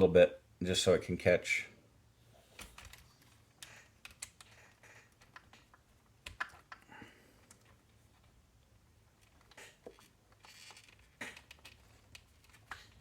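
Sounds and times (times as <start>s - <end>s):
small parts clicking and tapping: 2.6s - 13.0s.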